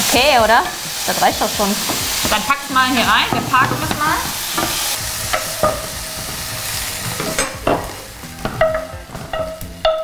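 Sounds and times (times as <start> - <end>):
chicken sizzling in frying pan: 0.0 - 10.0
spatula knocking and scraping pan: 1.7 - 10.0.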